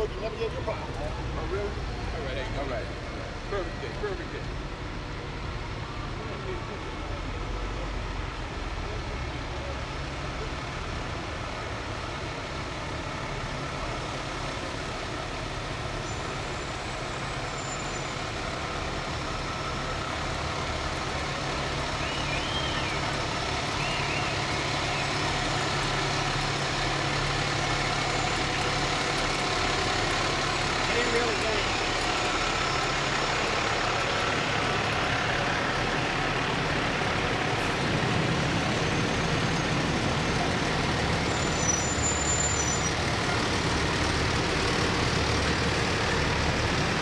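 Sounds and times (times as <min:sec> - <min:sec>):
fire truck engine humming: 0:00.0 - 0:47.0.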